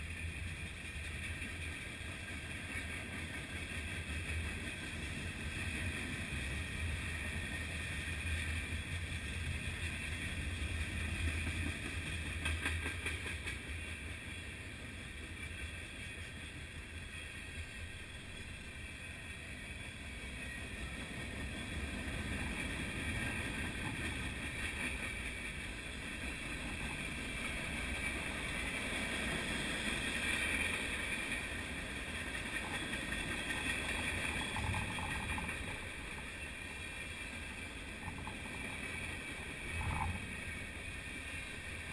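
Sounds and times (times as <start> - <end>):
train wheels rolling on rails: 0.0 - 41.9.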